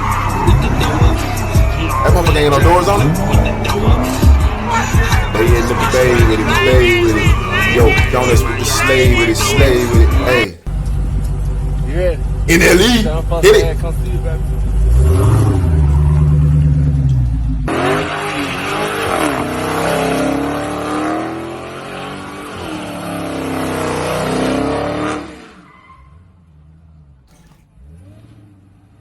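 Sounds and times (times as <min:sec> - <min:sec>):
car engine revving hard: 0:00.0 - 0:25.6, 0:27.3 - 0:29.0
tires screeching: 0:00.0 - 0:29.0.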